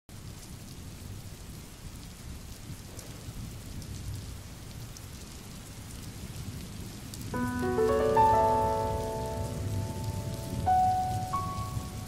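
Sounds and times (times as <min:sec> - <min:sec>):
steady rain falling: 0:00.1 - 0:12.0.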